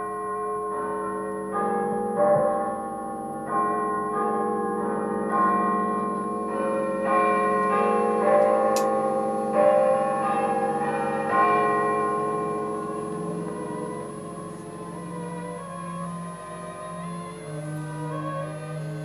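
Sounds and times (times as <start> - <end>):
bells chiming: 0.0 - 19.0.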